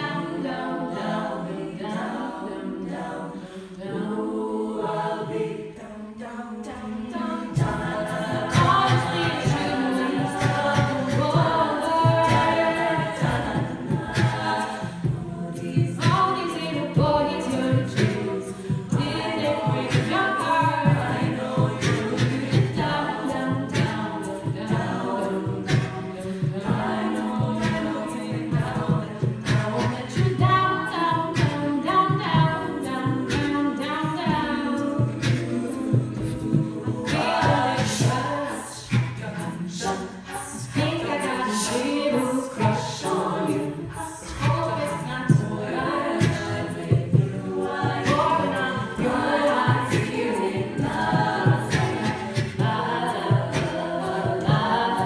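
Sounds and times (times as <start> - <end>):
lead voice singing: 0.0 - 55.0
vocal-percussion beat: 0.0 - 55.0
women's a cappella group singing: 0.0 - 55.0.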